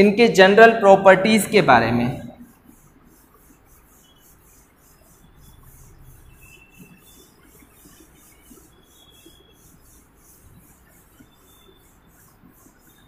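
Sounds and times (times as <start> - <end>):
duster rubbing whiteboard: 1.1 - 13.0.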